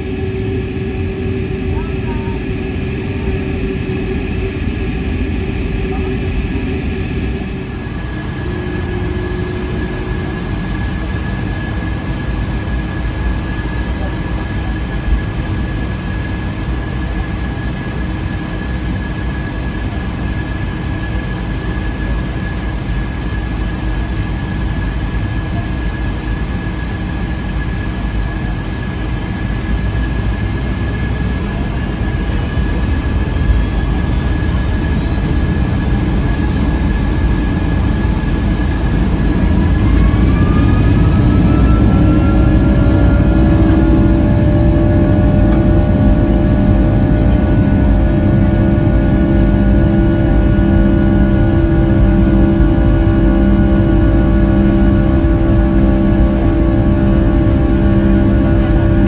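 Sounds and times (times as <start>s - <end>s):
airplane cabin rumble and hiss: 0.0s - 59.0s
jet engine whine: 0.0s - 59.0s.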